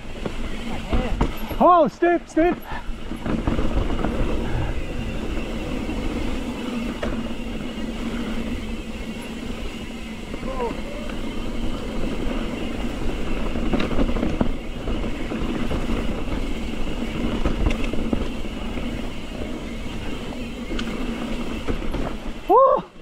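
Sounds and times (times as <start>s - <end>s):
bike rattling: 0.0s - 23.0s
tyres rumbling on dirt: 0.0s - 23.0s
wind across the camera: 2.5s - 22.6s.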